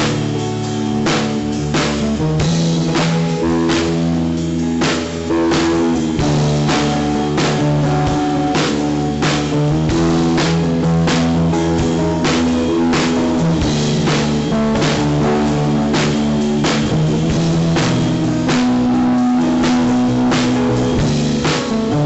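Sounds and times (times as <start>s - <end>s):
rock song with guitar and drums: 0.0s - 22.0s.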